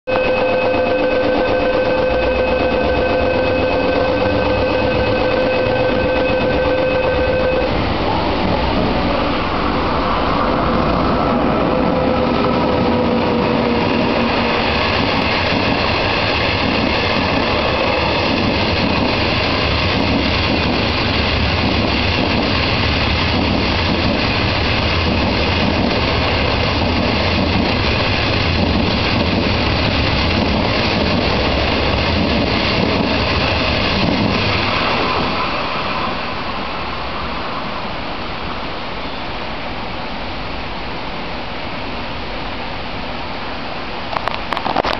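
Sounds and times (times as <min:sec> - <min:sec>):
falling whine: 0:00.1 - 0:38.7
train rumbling past on rails: 0:00.1 - 0:44.9.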